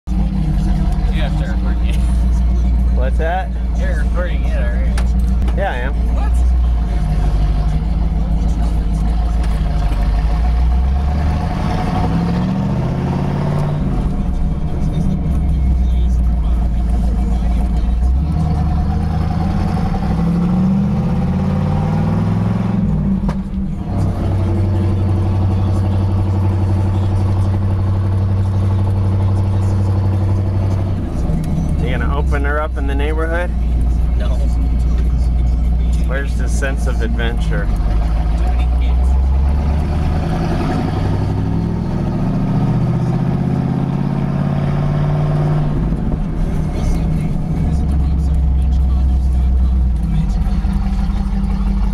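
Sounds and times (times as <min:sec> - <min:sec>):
loud vee eight engine: 0:00.1 - 0:51.9.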